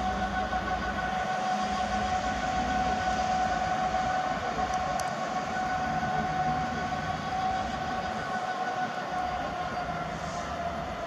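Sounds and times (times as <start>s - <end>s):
freight train rumbling past: 0.0s - 11.0s
steady whine: 0.0s - 11.0s.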